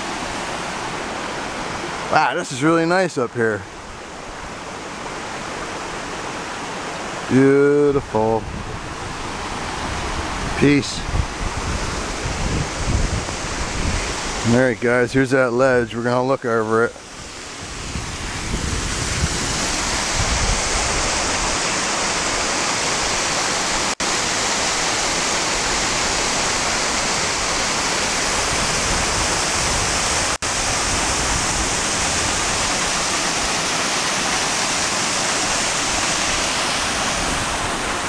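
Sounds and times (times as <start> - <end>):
waterfall rushing over rocks: 0.0 - 15.3, 17.0 - 38.0.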